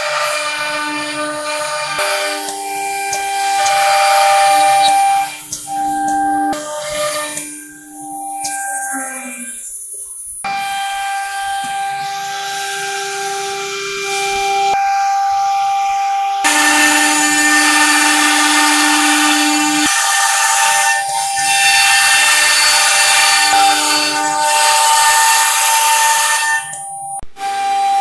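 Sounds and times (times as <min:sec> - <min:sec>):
router bit carving wood: 0:00.0 - 0:28.0
router spindle whining: 0:00.0 - 0:28.0.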